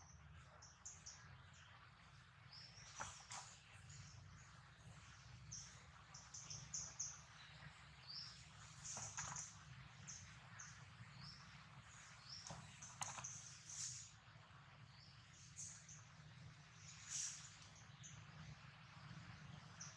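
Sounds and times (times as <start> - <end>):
faint bird chirping: 0.0 - 19.9
low steady hum: 0.0 - 19.9.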